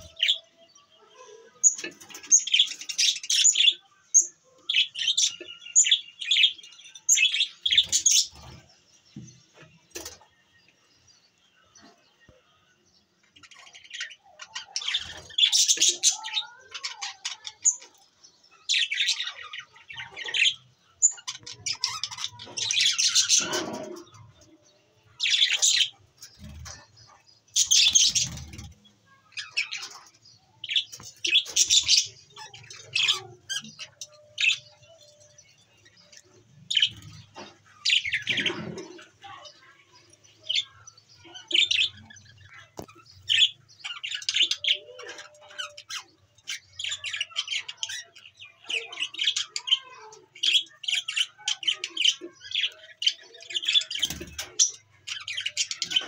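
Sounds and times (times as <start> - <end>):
budgerigars chattering and chirping: 0.0 - 0.8, 1.6 - 10.3, 13.3 - 56.0.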